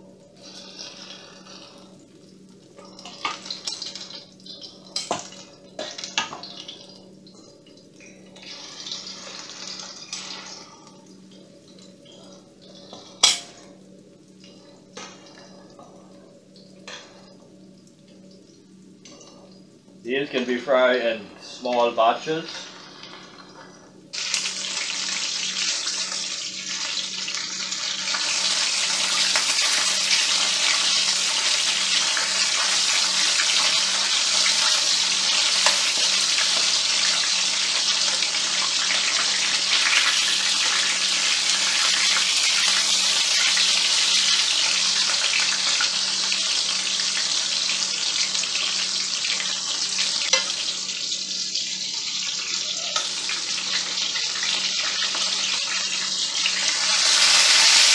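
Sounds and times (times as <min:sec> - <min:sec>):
meat frying in hot oil: 0:00.0 - 0:57.9.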